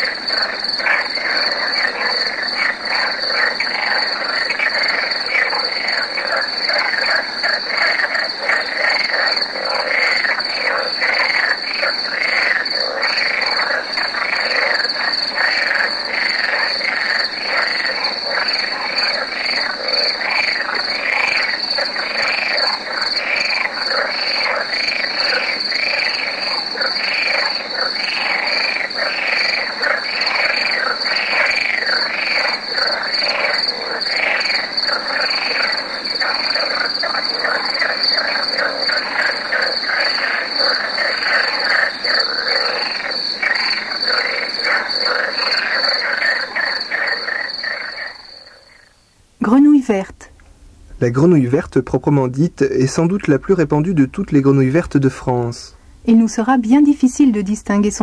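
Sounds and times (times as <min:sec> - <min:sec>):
frogs croaking: 0:00.0 - 0:58.0.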